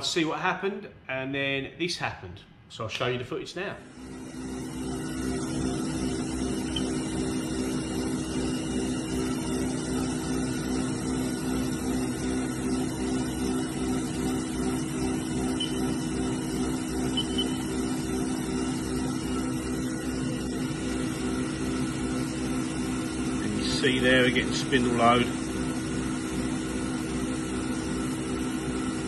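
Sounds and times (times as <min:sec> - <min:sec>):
spindle motor humming: 0:03.9 - 0:29.0.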